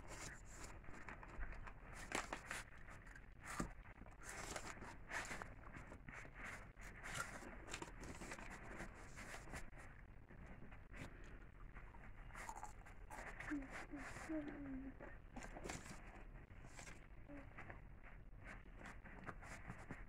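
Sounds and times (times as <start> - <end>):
fabric rustling and scratching: 0.0 - 20.0.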